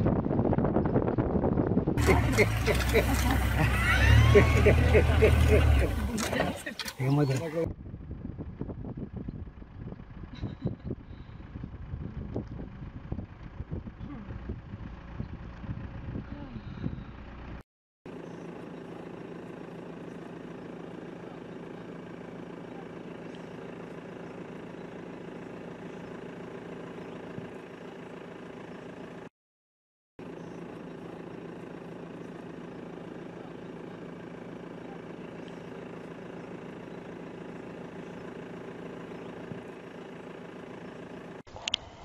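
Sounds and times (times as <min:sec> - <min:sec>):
steady engine hum: 0:00.0 - 0:29.3, 0:30.2 - 0:42.0.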